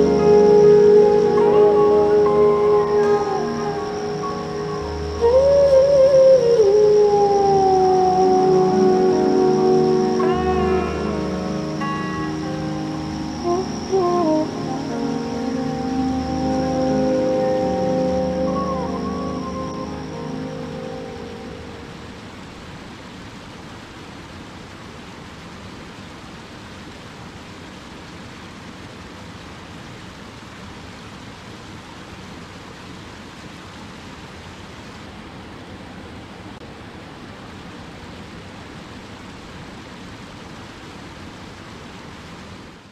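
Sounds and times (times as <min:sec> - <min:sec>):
cascading water rushing: 0:00.0 - 0:42.9.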